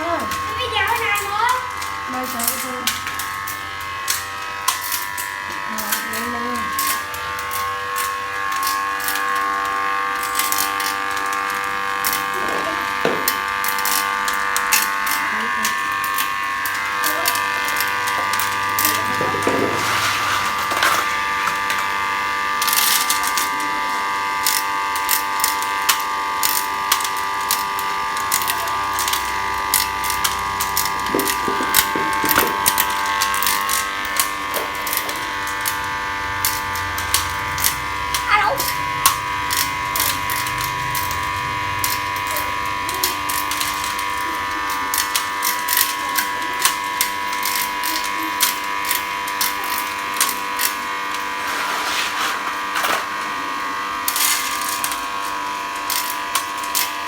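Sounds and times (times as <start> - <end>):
machine motor whine: 0.0 - 57.0.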